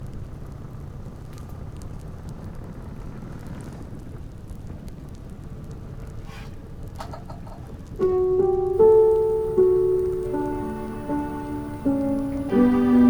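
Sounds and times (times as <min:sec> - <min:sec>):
fire crackling and popping: 0:00.4 - 0:03.1, 0:03.8 - 0:07.0, 0:07.7 - 0:13.0.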